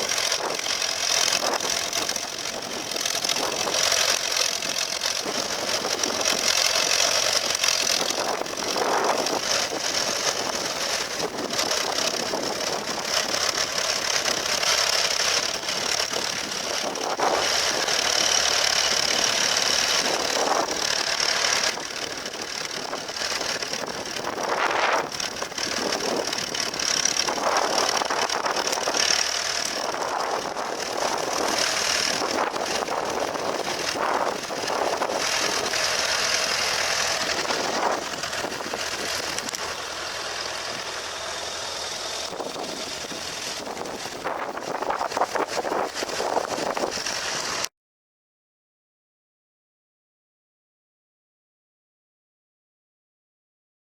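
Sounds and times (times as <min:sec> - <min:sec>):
tractor engines running: 0:00.0 - 0:47.7.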